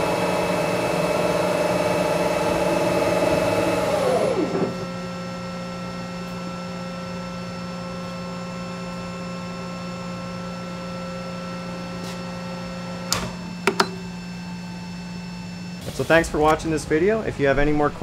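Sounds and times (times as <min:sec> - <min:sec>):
machine electrical hum: 0:00.0 - 0:18.0.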